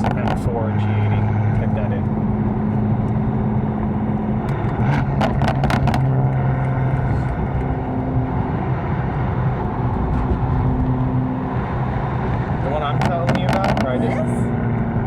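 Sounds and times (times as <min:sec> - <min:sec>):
car engine running from inside cabin: 0:00.0 - 0:15.0.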